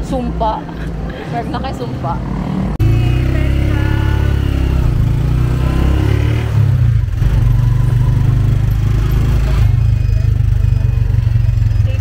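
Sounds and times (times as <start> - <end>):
motorcycle engine droning: 2.0 - 12.0.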